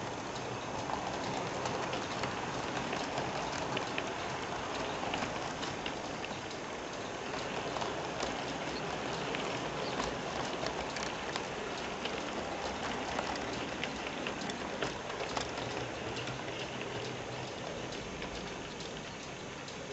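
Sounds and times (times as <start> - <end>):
model train wagons rolling rattle: 0.0 - 19.9
wheels clicking over rail joints: 0.0 - 19.9.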